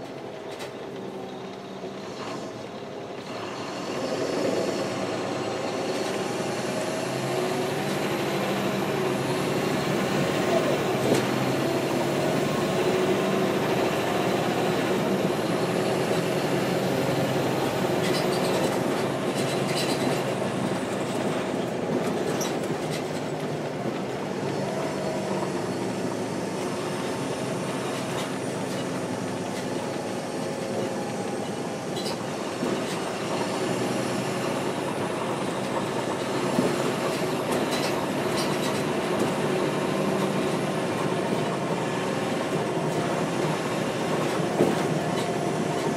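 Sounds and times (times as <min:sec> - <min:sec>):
bus diesel engine drone: 0:00.0 - 0:45.9.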